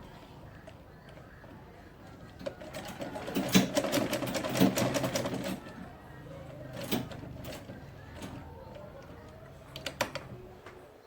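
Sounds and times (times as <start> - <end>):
sewing machine stitching: 0.5 - 10.5.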